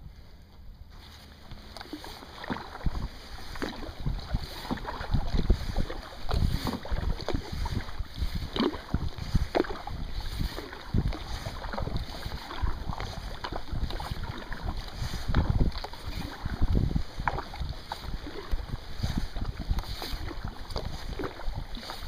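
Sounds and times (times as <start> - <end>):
paddle splashing in water: 0.9 - 22.0
wind buffeting microphone: 1.0 - 22.0.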